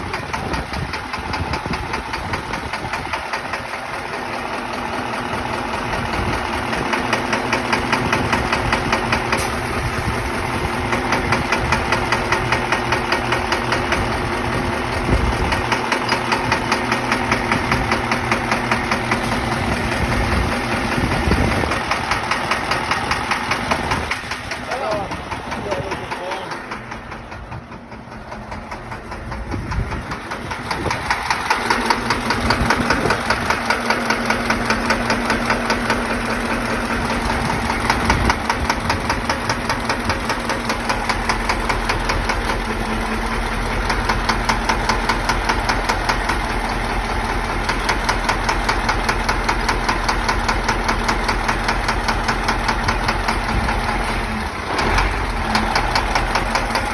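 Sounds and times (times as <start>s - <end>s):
engine running with rapid knock: 0.0s - 56.9s.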